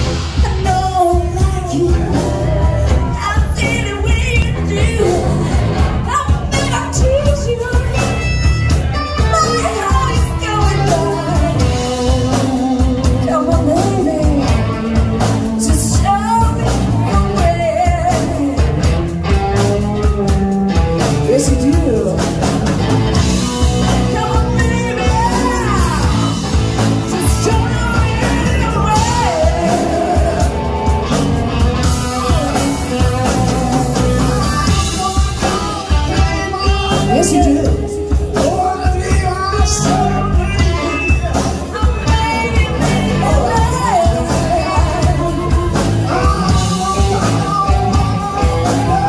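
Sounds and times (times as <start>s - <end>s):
bass guitar: 0.0s - 49.0s
electric guitar: 0.0s - 49.0s
steady drum beat: 0.0s - 49.0s
woman singing: 0.3s - 19.0s, 21.0s - 22.4s, 23.3s - 49.0s.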